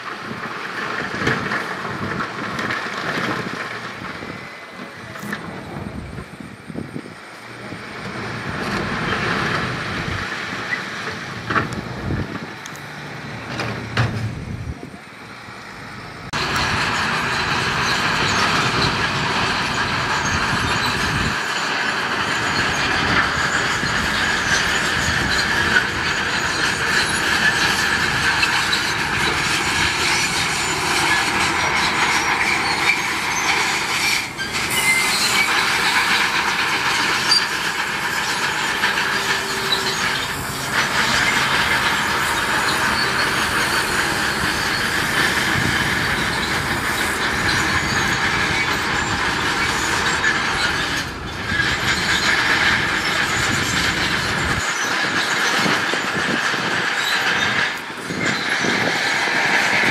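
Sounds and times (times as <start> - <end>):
bulldozer engine running: 0.0 - 59.9
bulldozer tracks squealing and clanking: 0.0 - 59.9.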